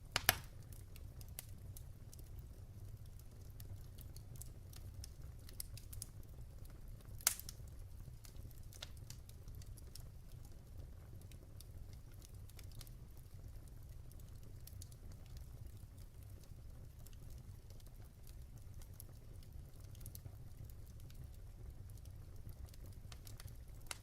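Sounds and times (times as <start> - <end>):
log fire crackling: 0.0 - 24.0.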